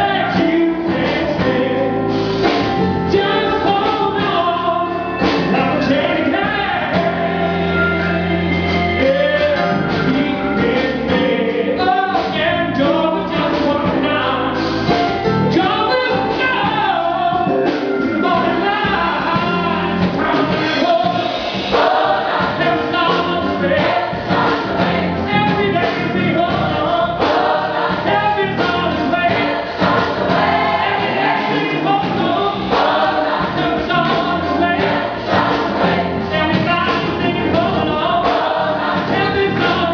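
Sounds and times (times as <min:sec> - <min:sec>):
gospel choir singing: 0:00.0 - 0:39.9
guitar: 0:00.0 - 0:39.9
keyboard: 0:00.0 - 0:39.9.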